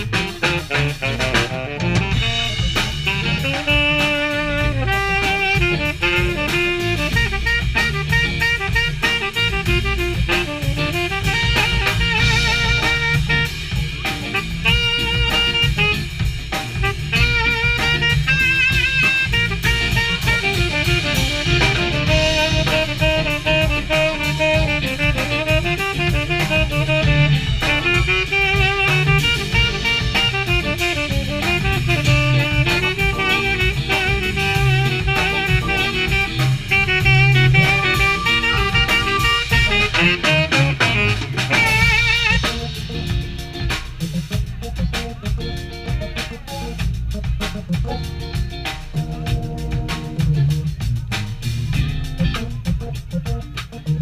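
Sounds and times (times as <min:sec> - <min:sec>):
saxophone melody: 0:00.0 - 0:50.8
jazz-funk band playing: 0:00.0 - 0:54.0.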